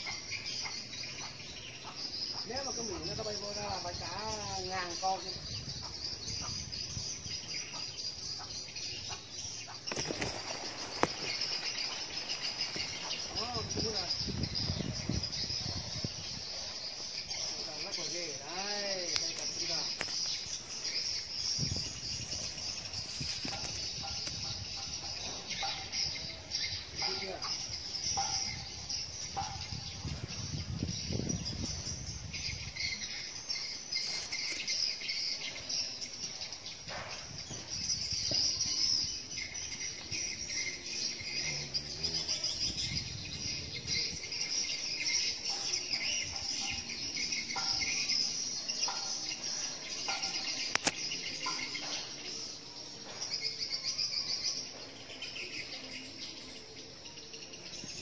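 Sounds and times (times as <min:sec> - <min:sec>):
bird chirps: 0:00.0 - 0:58.0
insect chorus chirring: 0:00.0 - 0:58.0.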